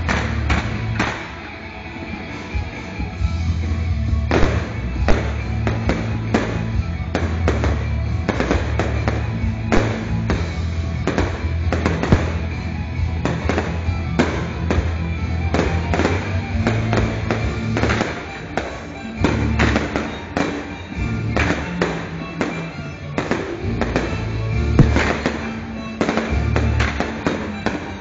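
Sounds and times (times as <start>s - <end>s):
music with deep low notes: 0.0s - 27.8s
fireworks bangs and crackles: 0.0s - 28.0s.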